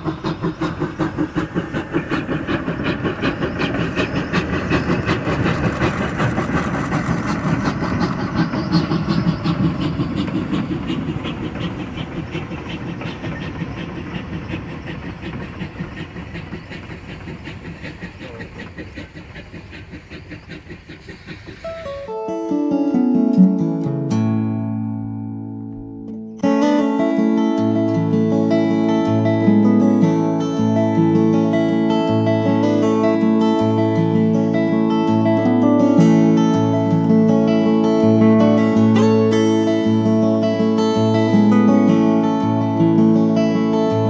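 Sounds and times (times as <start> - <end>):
steam locomotive chuffing: 0.0 - 24.7, 26.4 - 44.0.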